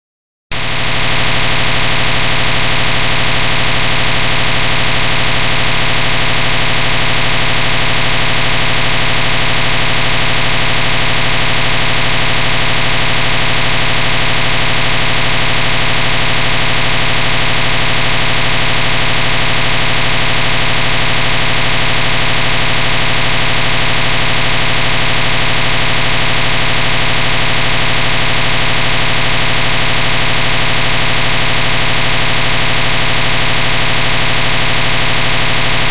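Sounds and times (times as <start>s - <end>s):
electronic buzz: 0.5s - 35.9s.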